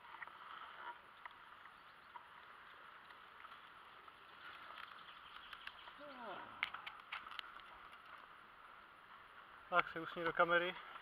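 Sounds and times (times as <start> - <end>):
faint outdoor background hiss: 0.0 - 11.0.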